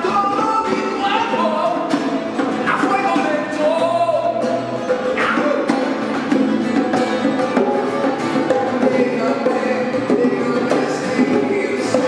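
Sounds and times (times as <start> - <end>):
acoustic guitars strumming: 0.0 - 12.0
bongos played by hand: 0.0 - 12.0.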